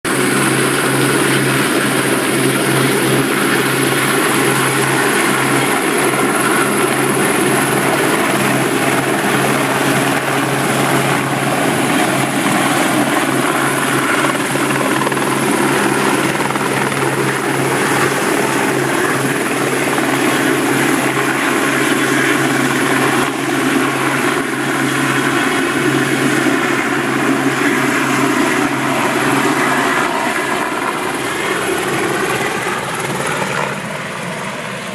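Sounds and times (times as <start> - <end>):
helicopter rotor noise: 0.1 - 34.9
high turbine whine: 0.1 - 34.9.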